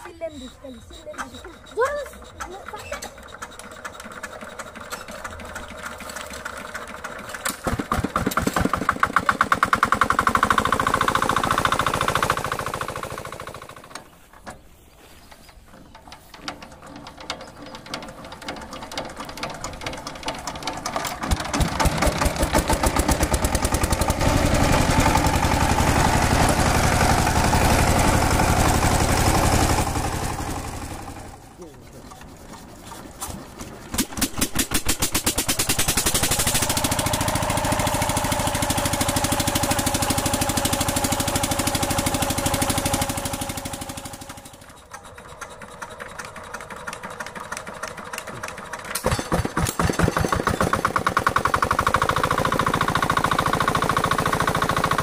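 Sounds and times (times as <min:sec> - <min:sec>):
water pump diesel engine running: 0:00.0 - 0:14.4, 0:15.1 - 0:55.0
power tiller engine running: 0:00.0 - 0:55.0.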